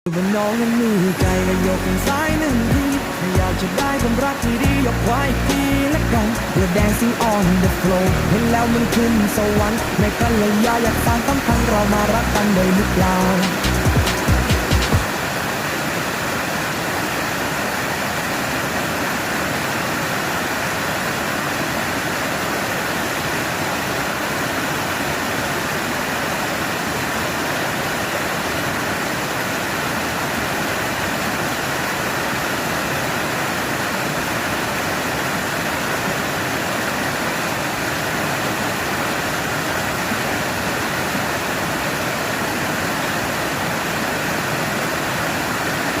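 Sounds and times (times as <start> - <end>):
waterfall cascading over rocks: 0.1 - 46.0.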